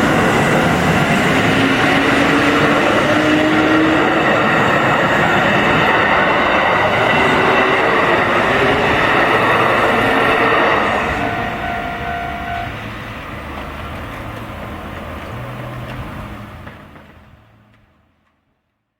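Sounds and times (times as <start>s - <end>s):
train passing: 0.0s - 18.3s.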